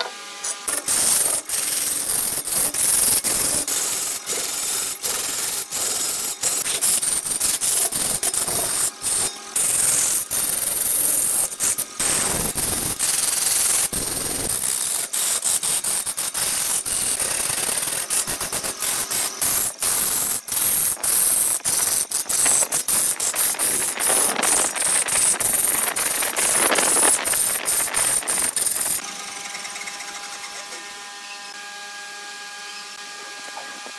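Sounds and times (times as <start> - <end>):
sharp clicks of shavings: 0.5 - 29.0
gouge scraping spinning log: 0.7 - 29.0.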